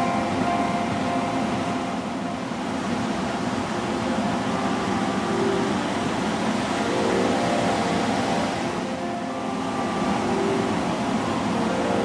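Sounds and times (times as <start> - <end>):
ocean surf roaring: 0.0 - 12.0.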